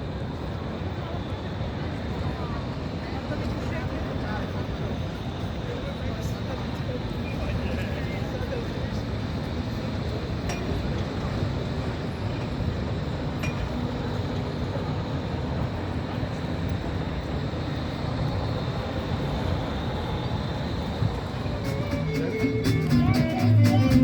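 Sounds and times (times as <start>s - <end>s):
tram rumbling: 0.0s - 24.0s.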